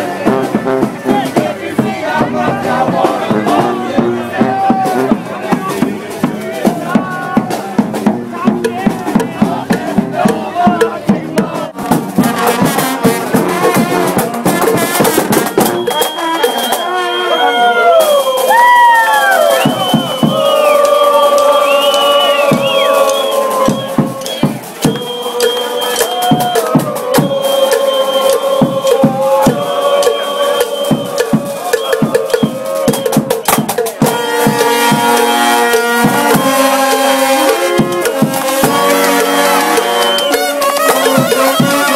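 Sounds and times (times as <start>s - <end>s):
drums beating: 0.0s - 41.9s
marching band playing: 0.0s - 41.9s.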